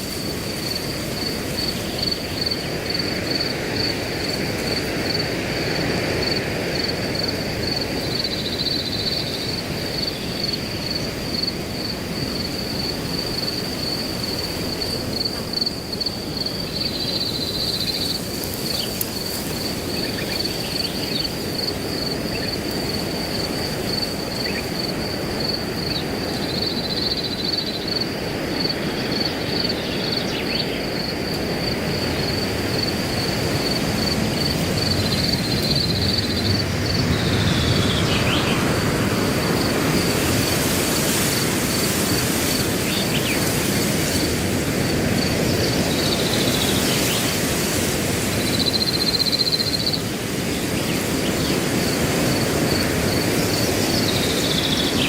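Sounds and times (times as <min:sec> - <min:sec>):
cricket chorus: 0:00.0 - 0:55.0
wind blowing through grass: 0:00.0 - 0:55.0.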